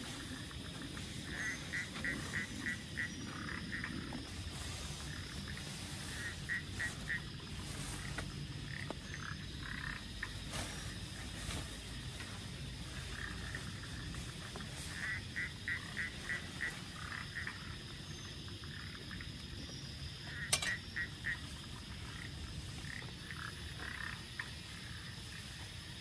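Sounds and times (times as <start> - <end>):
frog croaking: 0.0 - 26.0.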